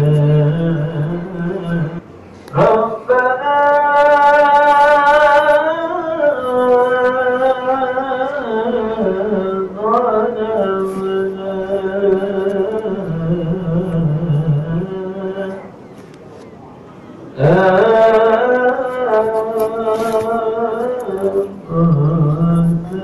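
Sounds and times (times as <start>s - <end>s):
person chanting: 0.0s - 15.7s, 17.4s - 23.0s.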